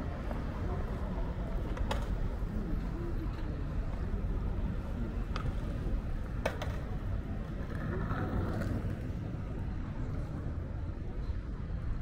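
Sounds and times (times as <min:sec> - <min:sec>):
faint voices of passers-by: 0:00.0 - 0:12.0
traffic rumble: 0:00.0 - 0:12.0.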